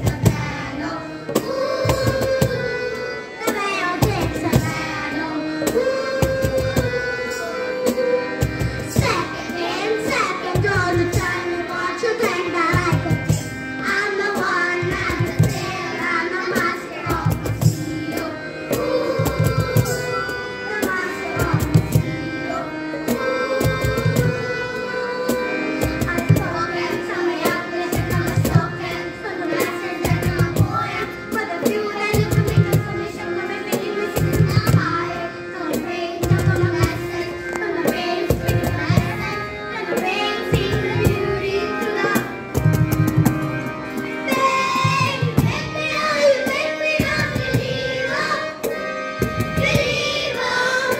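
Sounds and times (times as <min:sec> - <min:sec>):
girls singing into microphones: 0:00.0 - 0:50.9
music with steady beat: 0:00.0 - 0:50.9.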